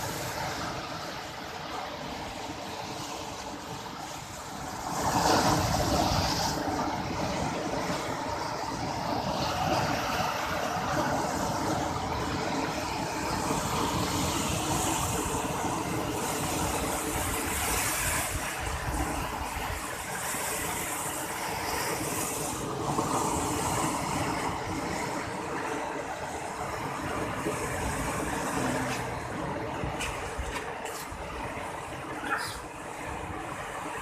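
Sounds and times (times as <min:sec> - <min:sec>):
water churning along ship hull: 0:00.0 - 0:34.0.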